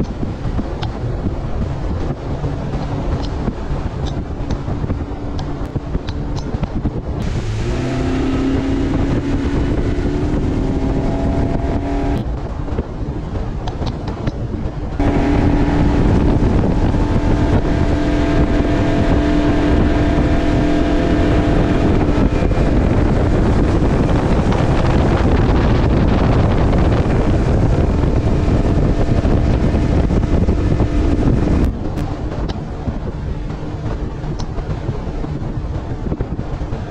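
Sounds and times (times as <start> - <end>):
outboard motor humming: 0.0 - 36.9
wind and spray rushing: 0.0 - 36.9
wind buffeting microphone: 0.0 - 36.9.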